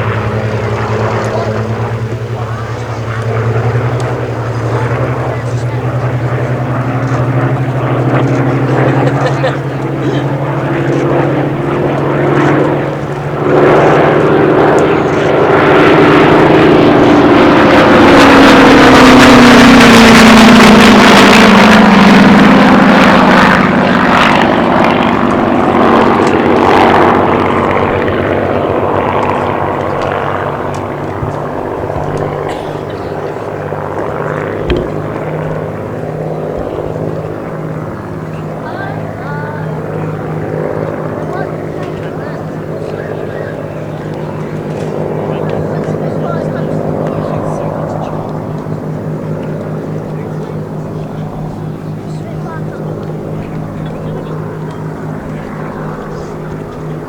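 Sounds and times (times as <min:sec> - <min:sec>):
propeller plane engine passing: 0:00.0 - 0:57.0.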